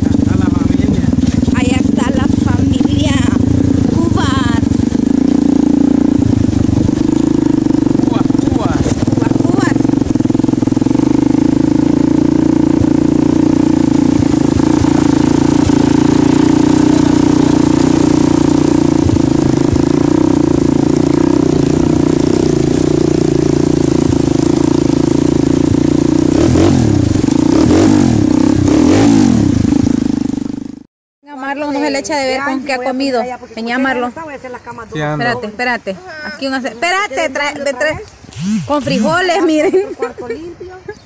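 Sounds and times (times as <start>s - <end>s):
motorcycle engine running: 0.0s - 30.9s, 35.0s - 39.8s.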